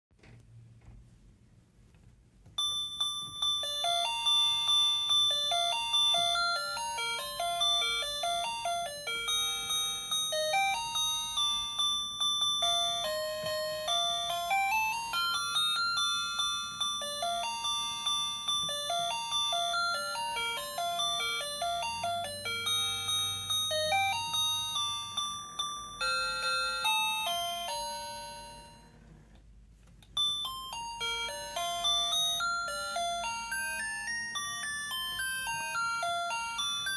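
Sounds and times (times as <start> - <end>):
tinny electronic chiming melody: 2.6 - 29.1, 30.2 - 36.9.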